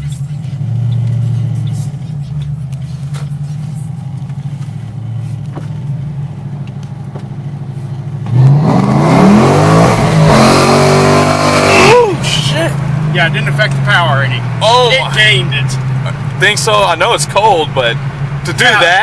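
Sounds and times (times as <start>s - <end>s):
car engine revving: 0.0s - 19.0s
deep exhaust note: 0.0s - 19.0s.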